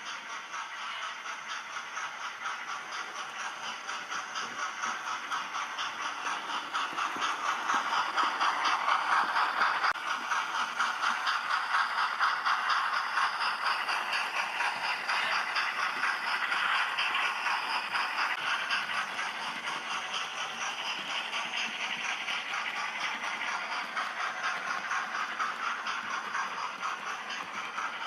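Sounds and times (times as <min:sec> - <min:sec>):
model train wheels clattering: 0:00.0 - 0:28.0
steam chuffing sound effect: 0:00.0 - 0:28.0.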